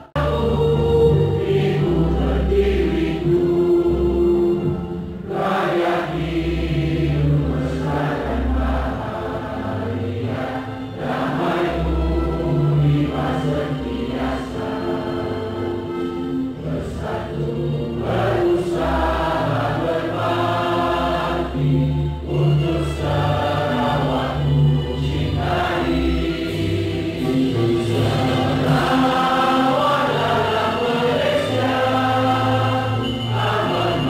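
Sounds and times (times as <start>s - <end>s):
crowd singing in unison: 0.0s - 34.0s
musical accompaniment with bass: 0.0s - 34.0s.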